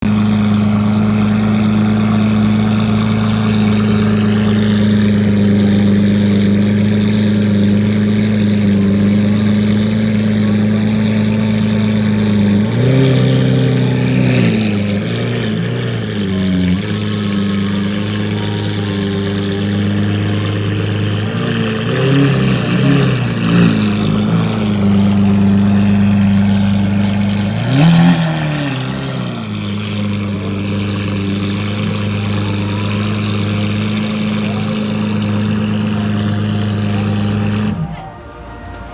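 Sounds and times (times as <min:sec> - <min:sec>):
engine revving: 0:00.0 - 0:38.3
sports car engine idling: 0:00.0 - 0:38.9.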